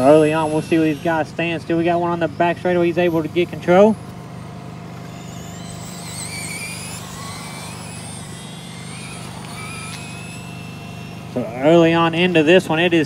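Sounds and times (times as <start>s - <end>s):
electric motors whining: 0.0s - 13.0s
steady low hum: 0.0s - 13.0s.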